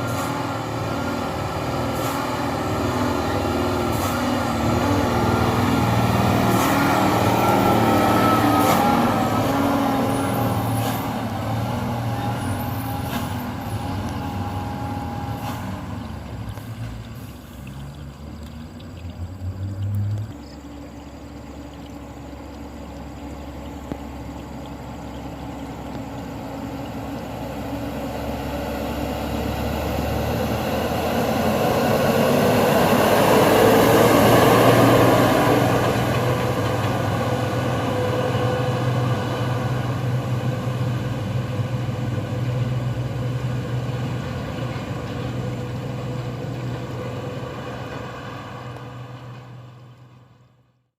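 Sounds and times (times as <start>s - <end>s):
truck diesel engine pulling uphill: 0.0s - 50.9s.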